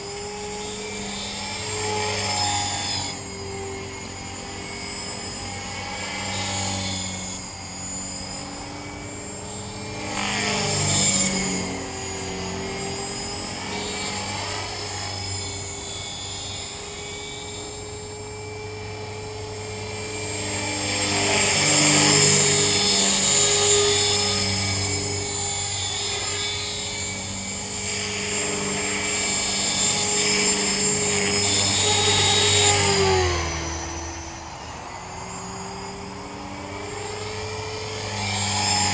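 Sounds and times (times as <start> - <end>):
high bearing squeal: 0.0 - 38.9
rc helicopter motor and rotors whine: 0.0 - 38.9.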